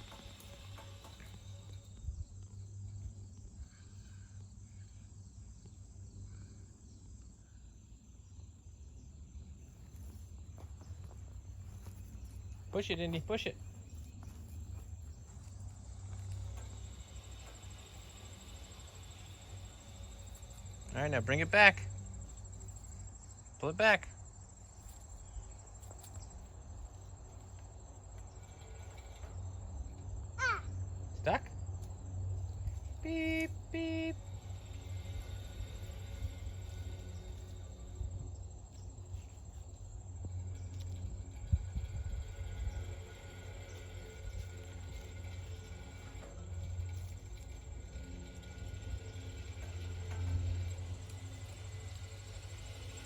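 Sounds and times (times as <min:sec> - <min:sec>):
insects trilling: 0:00.0 - 0:53.0
low steady rumble: 0:08.3 - 0:53.0.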